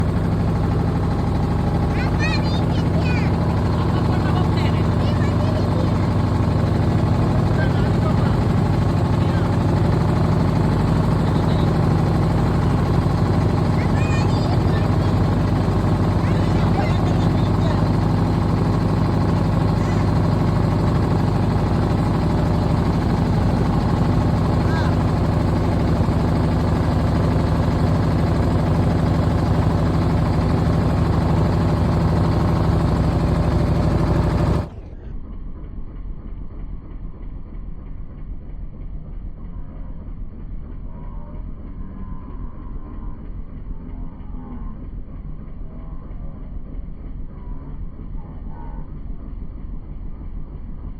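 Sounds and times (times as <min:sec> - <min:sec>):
boat engine droning: 0:00.0 - 0:35.7, 0:39.1 - 0:49.4.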